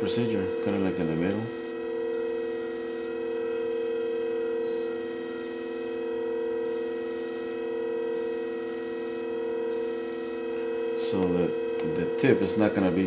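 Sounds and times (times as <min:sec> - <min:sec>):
sharpening machine motor humming: 0:00.0 - 0:13.0.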